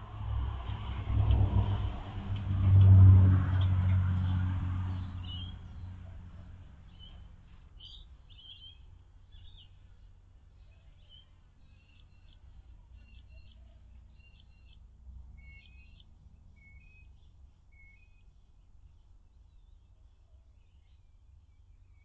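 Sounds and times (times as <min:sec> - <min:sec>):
vehicle engine rumble: 0:00.0 - 0:20.0
birds chirping: 0:04.2 - 0:22.0.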